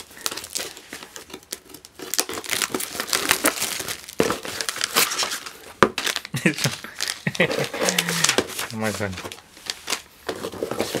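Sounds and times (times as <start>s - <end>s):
cardboard rustling: 0.0s - 11.0s
plastic wrap crinkling: 0.0s - 11.0s.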